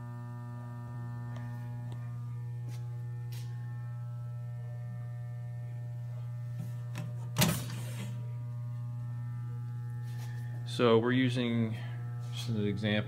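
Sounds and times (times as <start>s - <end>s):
machine electrical hum: 0.0s - 13.0s.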